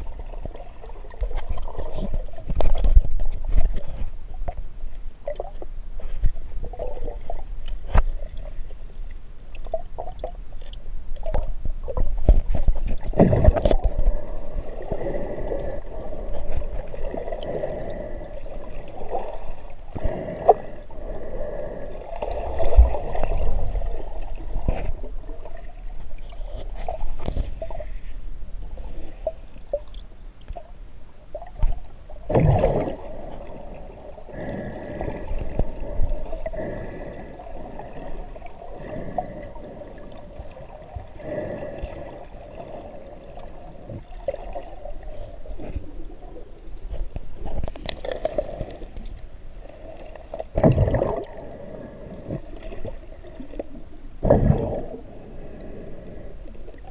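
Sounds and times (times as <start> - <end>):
water gurgling and swirling underwater: 0.0 - 56.9.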